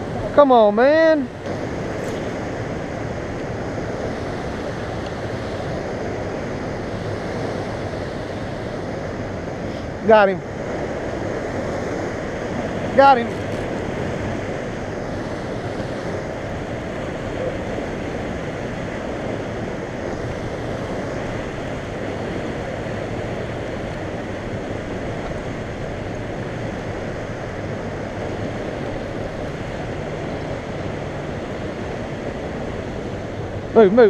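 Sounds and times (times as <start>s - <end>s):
turbulent water rushing: 0.0s - 34.0s
wind buffeting microphone: 0.0s - 34.0s.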